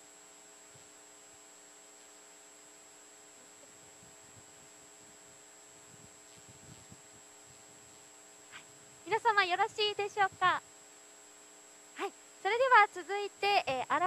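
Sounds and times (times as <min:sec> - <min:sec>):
electrical hum with whine: 0:00.0 - 0:14.0.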